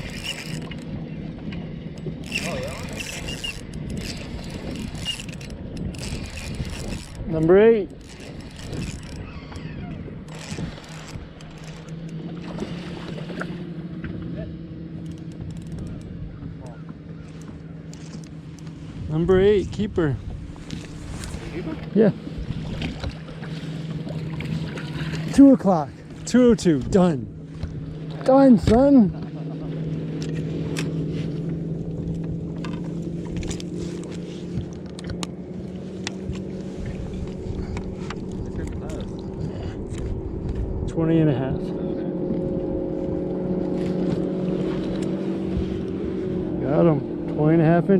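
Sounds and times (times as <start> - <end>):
boat motor humming: 0.0 - 47.9
water noise: 0.0 - 47.9
wind: 0.0 - 47.9.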